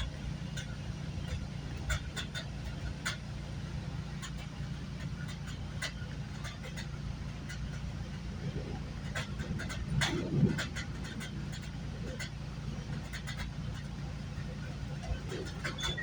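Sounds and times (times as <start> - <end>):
wheel and car body clicks: 0.0 - 3.3, 4.1 - 16.0
train rumbling from inside coach: 0.0 - 16.0.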